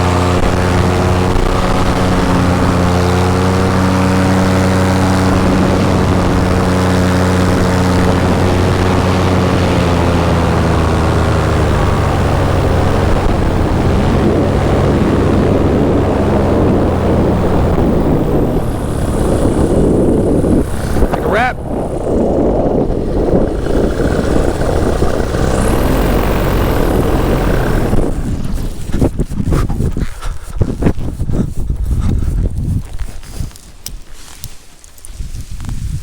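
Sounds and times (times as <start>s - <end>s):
paramotor engine and propeller: 0.0s - 34.4s
rushing wind: 0.0s - 36.0s.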